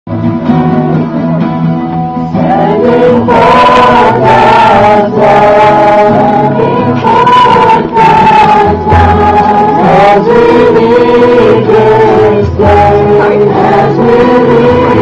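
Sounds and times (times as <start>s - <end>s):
group of voices singing: 2.3s - 15.0s.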